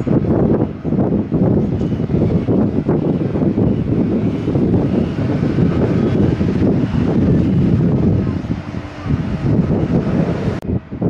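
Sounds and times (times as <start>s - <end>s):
jet engines droning: 0.0s - 11.0s
wind buffeting microphone: 0.0s - 11.0s.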